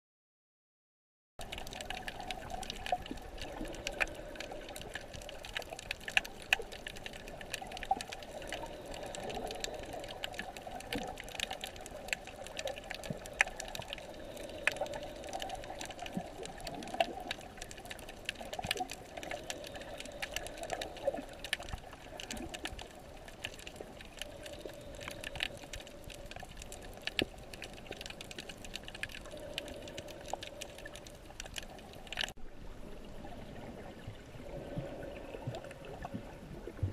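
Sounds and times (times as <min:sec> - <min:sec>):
crackle of sharp clicks: 0:01.4 - 0:32.4
underwater wash of water: 0:01.4 - 0:36.9.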